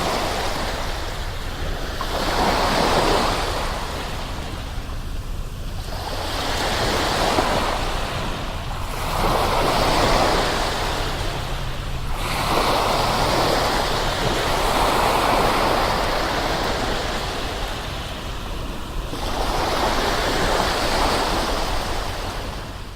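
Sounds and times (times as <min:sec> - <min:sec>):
low surf rumble: 0:00.0 - 0:22.9
ocean waves breaking: 0:00.0 - 0:22.9.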